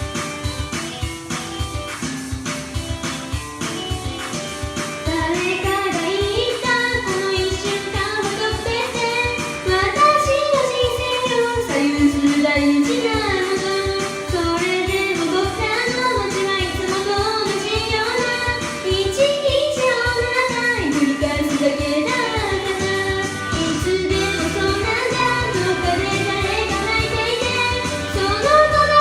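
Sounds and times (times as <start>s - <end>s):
karaoke backing track: 0.0s - 29.0s
woman singing pop ballad: 5.0s - 29.0s.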